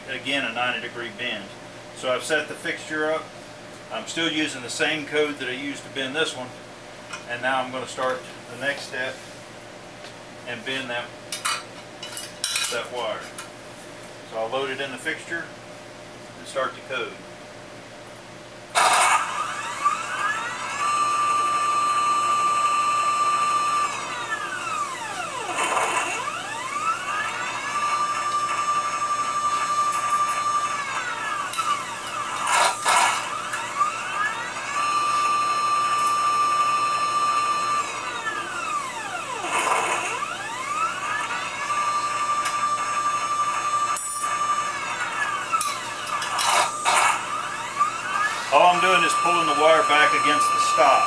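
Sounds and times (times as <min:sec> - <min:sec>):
motor whining: 0:00.0 - 0:51.0.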